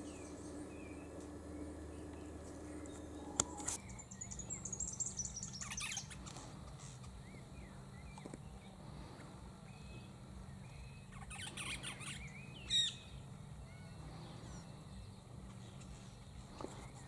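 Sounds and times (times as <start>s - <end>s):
small birds twittering: 0.0s - 17.0s.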